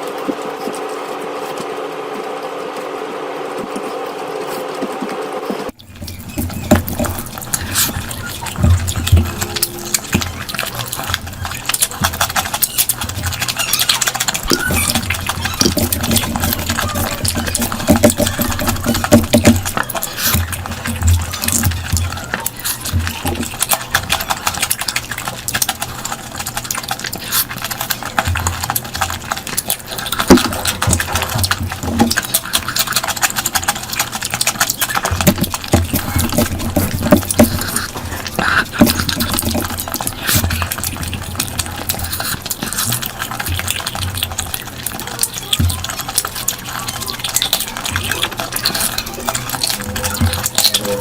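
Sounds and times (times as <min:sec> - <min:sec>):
wet chewing and smacking: 0:00.0 - 0:51.0.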